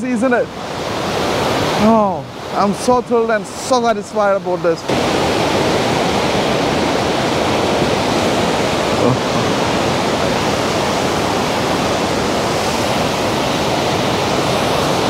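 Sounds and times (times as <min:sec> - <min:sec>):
water rushing through gorge: 0:00.0 - 0:15.0.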